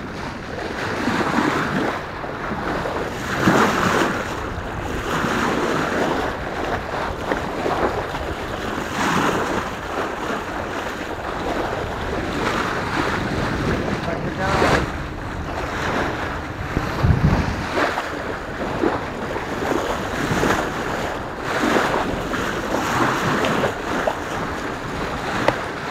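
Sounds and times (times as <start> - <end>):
water rushing along a hull: 0.0 - 25.9
wind buffeting microphone: 0.0 - 25.9.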